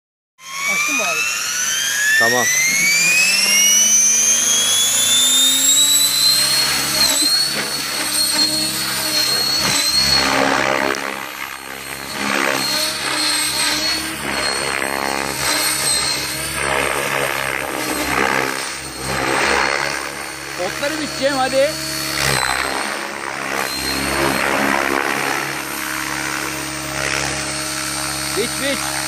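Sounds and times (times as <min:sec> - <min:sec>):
motor and gear whine: 0:00.4 - 0:29.0
rotor blades beating: 0:00.4 - 0:29.0.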